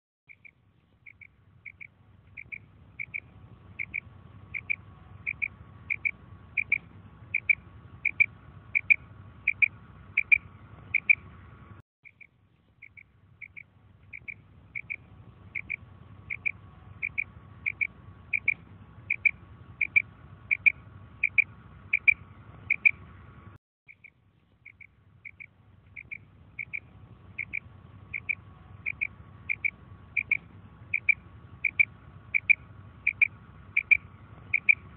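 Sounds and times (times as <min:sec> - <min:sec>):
quail calling: 0:00.3 - 0:11.3, 0:12.0 - 0:23.0, 0:23.9 - 0:34.9.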